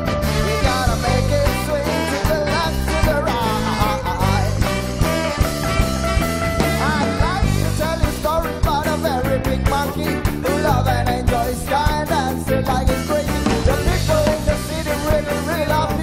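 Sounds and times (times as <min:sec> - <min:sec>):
live rock band playing: 0:00.0 - 0:16.0
man singing: 0:00.0 - 0:16.0.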